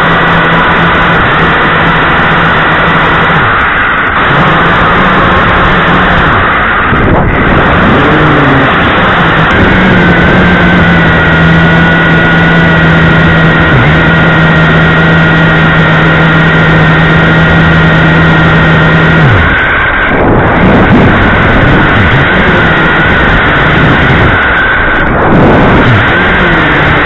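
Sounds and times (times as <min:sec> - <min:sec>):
drone motors and propellers: 0:00.0 - 0:27.0.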